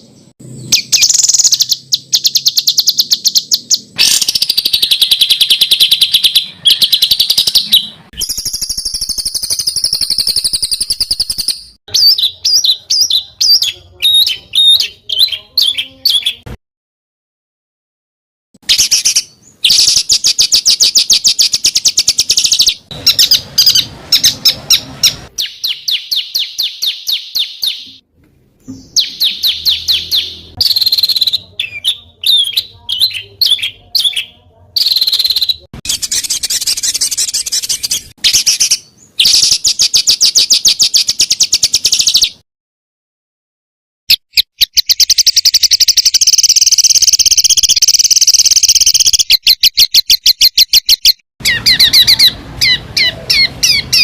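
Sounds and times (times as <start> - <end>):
songbirds chirping rapidly: 0.0 - 16.5, 18.6 - 42.4, 44.4 - 54.0.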